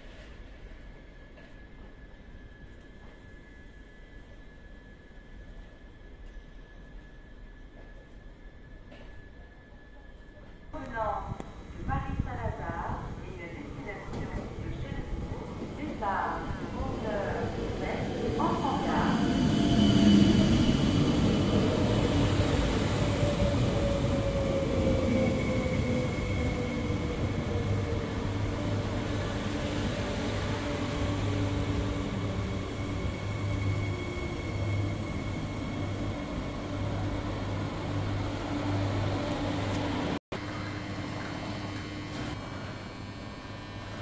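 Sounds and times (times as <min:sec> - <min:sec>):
standing train low hum: 0:00.0 - 0:44.0
train braking whine: 0:00.1 - 0:44.0.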